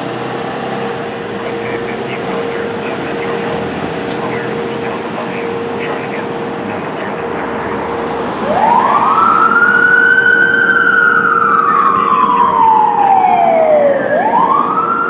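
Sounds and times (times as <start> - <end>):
ambulance siren wailing: 0.0 - 15.0.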